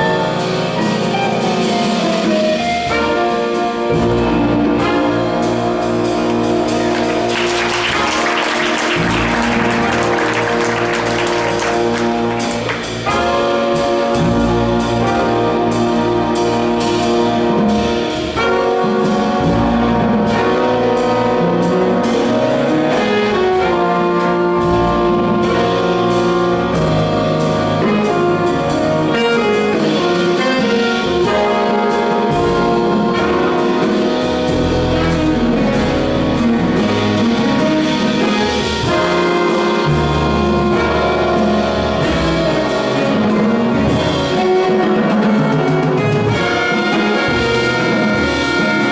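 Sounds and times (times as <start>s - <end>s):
jazz big band playing: 0.0s - 48.9s.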